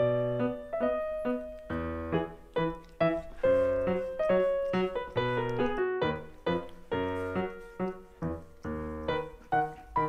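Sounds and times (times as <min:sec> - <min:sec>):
bouncy piano tune: 0:00.0 - 0:10.0.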